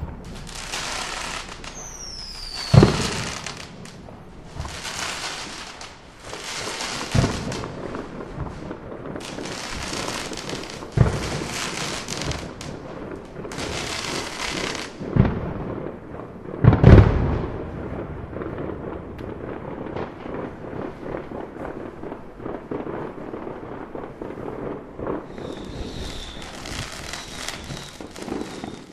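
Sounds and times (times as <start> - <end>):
deep firework bangs: 0.0 - 28.9
firework crackling: 0.0 - 28.9.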